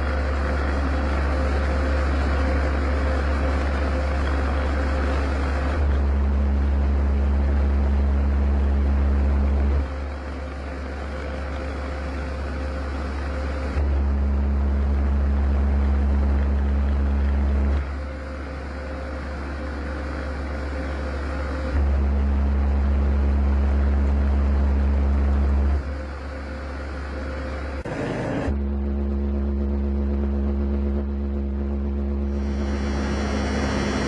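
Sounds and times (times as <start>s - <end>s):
loud electric drone with tone: 0.0s - 34.0s.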